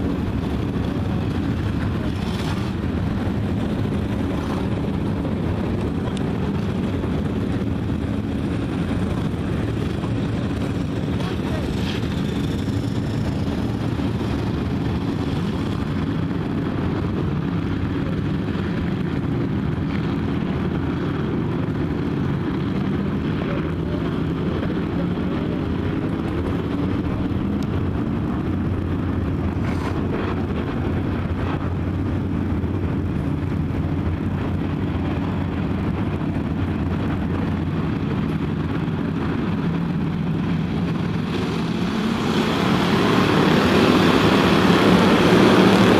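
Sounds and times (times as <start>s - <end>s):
race car engines droning: 0.0s - 45.9s.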